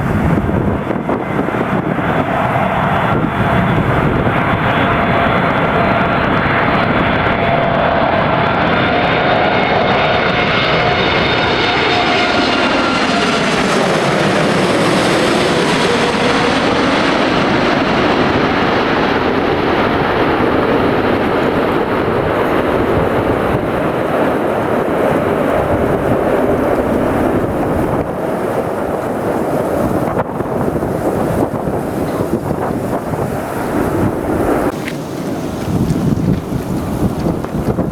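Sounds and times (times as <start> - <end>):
jet engines of passing airliner: 0.0 - 37.9
wind buffeting microphone: 0.0 - 37.9.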